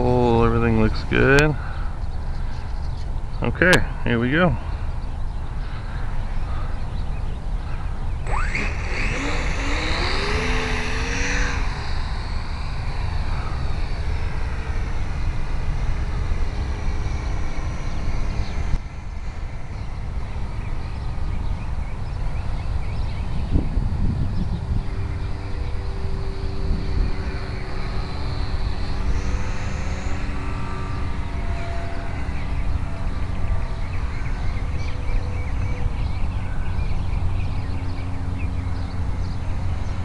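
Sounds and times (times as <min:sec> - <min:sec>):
wind rumbling on microphone: 0:00.0 - 0:40.0
electric model plane motor: 0:07.7 - 0:40.0.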